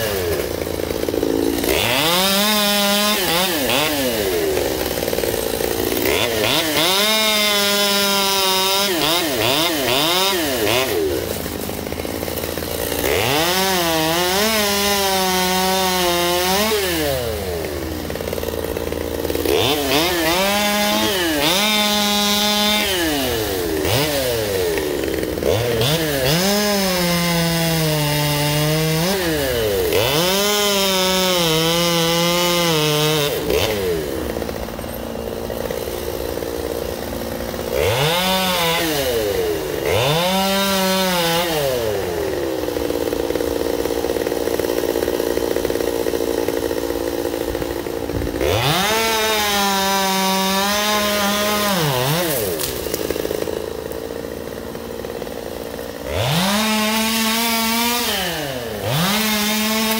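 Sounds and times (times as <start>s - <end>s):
chainsaw cutting tree limbs: 0.0s - 59.9s.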